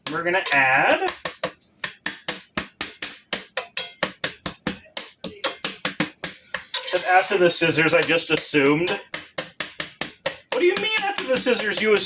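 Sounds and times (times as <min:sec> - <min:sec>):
knife chopping on cutting board: 0:00.0 - 0:12.0.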